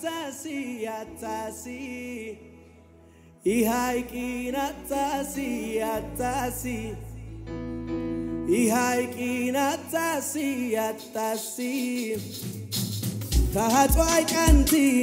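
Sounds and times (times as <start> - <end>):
man singing into a microphone: 0.0 - 2.7, 3.4 - 7.5, 8.4 - 12.7, 13.4 - 15.0.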